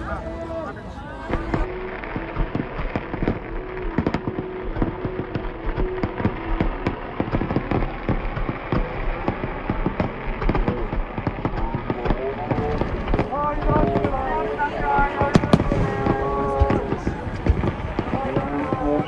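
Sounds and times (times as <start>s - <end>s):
fireworks bangs: 1.2s - 19.0s
fireworks crackling: 1.2s - 19.0s.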